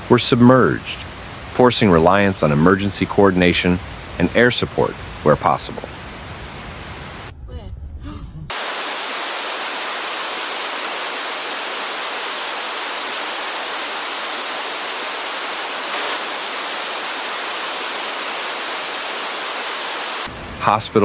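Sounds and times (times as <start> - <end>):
rushing water hiss: 0.0 - 7.3, 8.5 - 21.0.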